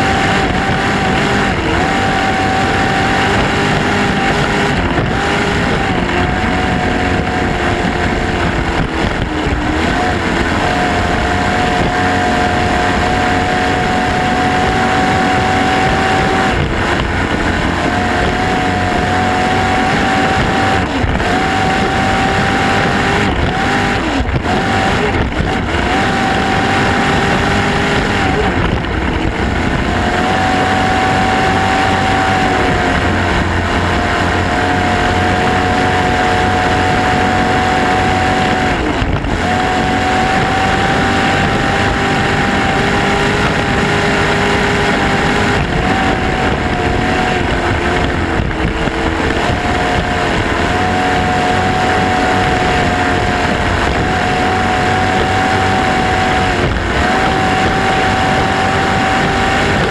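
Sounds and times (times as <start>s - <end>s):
boat engine high whine: 0.0s - 59.9s.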